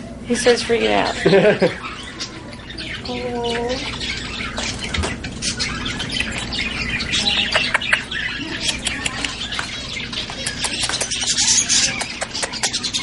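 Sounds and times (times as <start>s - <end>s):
bird chirping rapidly: 0.3s - 13.0s.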